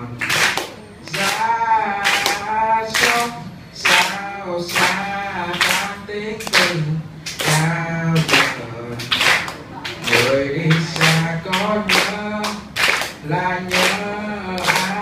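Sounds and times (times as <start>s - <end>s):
hands clapping on the beat: 0.1s - 15.0s.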